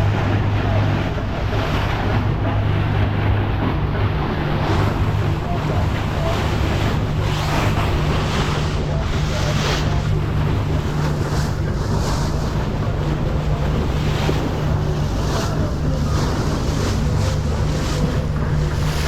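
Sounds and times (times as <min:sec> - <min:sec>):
boat engine humming: 0:00.0 - 0:19.0
water splashing along hull: 0:00.0 - 0:19.0
wind buffeting microphone: 0:00.0 - 0:19.0.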